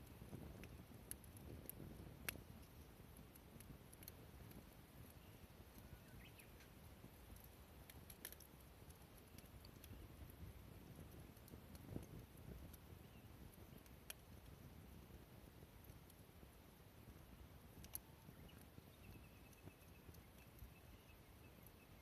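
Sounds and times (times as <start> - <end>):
faint clicks: 0.0 - 12.9, 13.5 - 14.5, 17.8 - 21.9.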